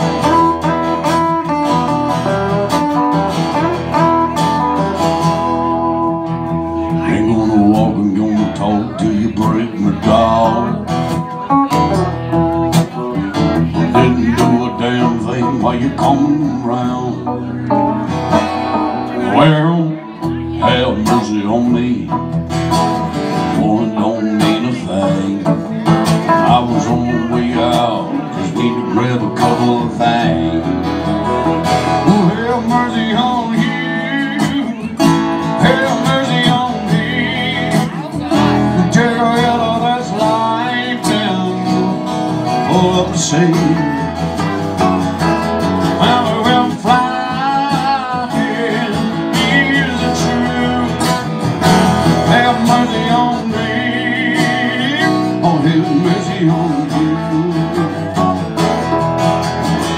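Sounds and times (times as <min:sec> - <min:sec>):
strummed acoustic guitar: 0:00.0 - 0:59.9
man singing into a microphone: 0:03.6 - 0:58.3.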